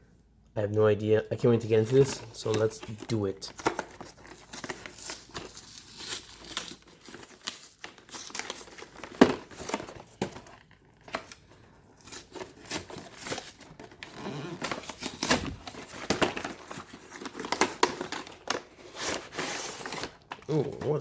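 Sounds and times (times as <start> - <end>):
plastic wrapping tearing and crinkling: 1.8 - 21.0.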